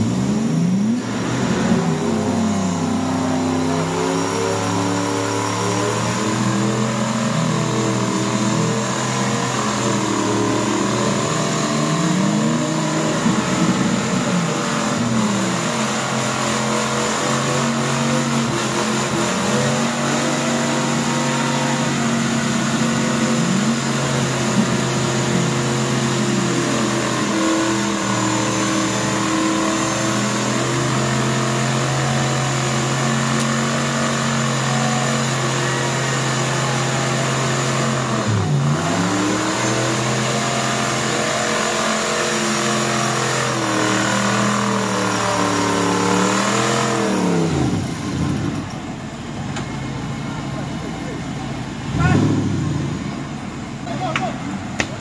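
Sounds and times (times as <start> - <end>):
off-road engine revving hard: 0.0 - 55.0.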